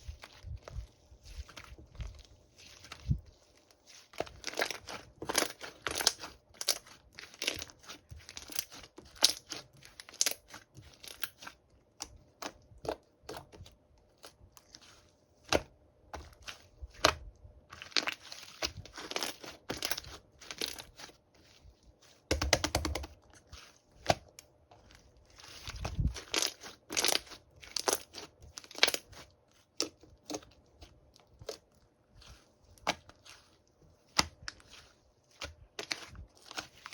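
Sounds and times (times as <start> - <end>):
crinkling and crunching: 0.0 - 36.9.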